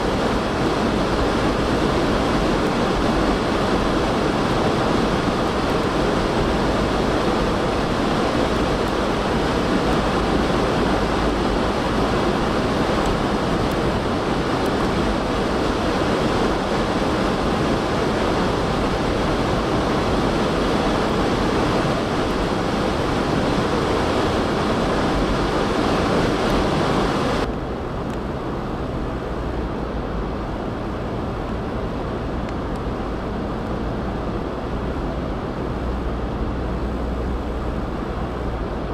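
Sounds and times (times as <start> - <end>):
blizzard wind roaring: 0.0 - 38.9.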